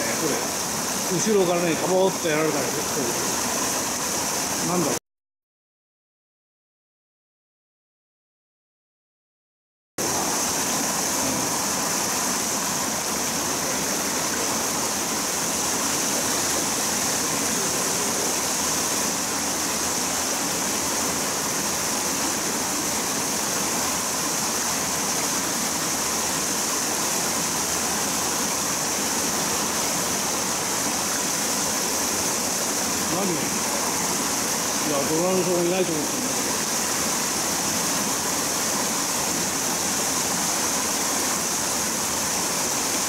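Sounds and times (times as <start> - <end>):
water rushing over rocks: 0.0 - 5.0, 10.0 - 43.0.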